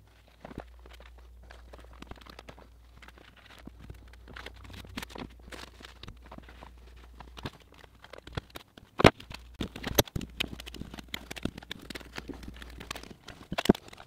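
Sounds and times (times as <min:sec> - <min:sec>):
tape crackling and clicking: 0:00.0 - 0:14.0.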